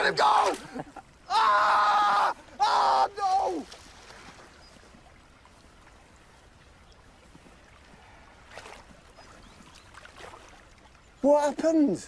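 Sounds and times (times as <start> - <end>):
lake water lapping: 2.1 - 12.0.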